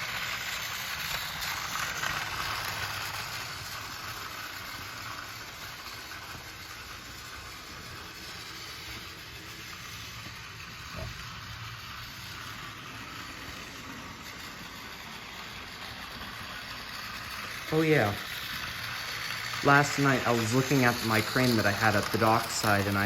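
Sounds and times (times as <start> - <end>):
toy train motor whirr: 0.0 - 23.0.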